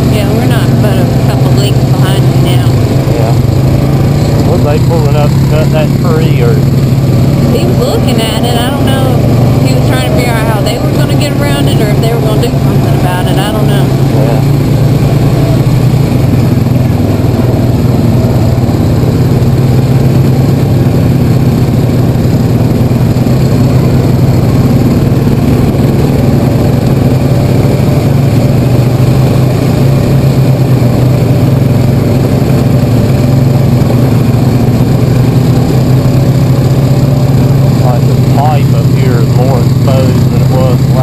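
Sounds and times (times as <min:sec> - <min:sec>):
quad bike engine running: 0:00.0 - 0:41.0.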